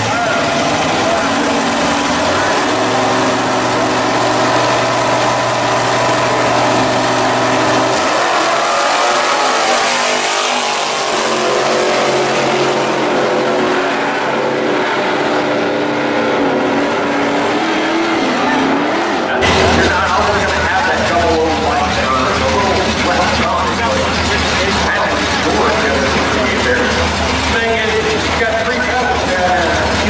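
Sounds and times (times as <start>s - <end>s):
drag race car engines revving: 0.0s - 30.0s
engines accelerating hard: 0.0s - 30.0s.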